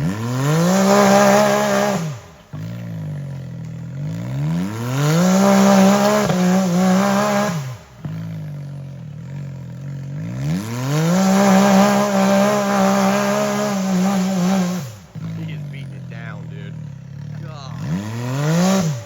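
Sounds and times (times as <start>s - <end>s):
utility vehicle engine revving: 0.0s - 19.0s.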